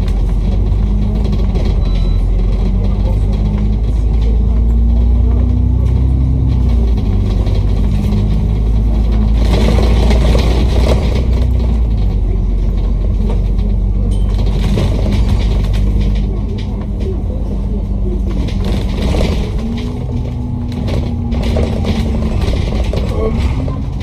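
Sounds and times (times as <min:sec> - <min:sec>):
bus engine droning: 0:00.0 - 0:24.0
road rush and rattling: 0:00.0 - 0:24.0.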